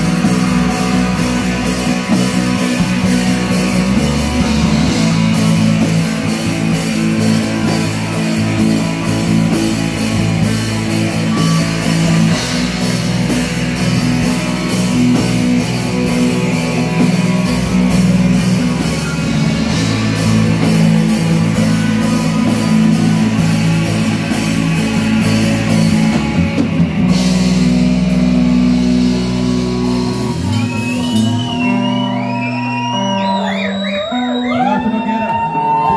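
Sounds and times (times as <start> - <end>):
heavy metal band playing: 0.0 - 35.9
high squealing guitar tones: 0.0 - 35.9.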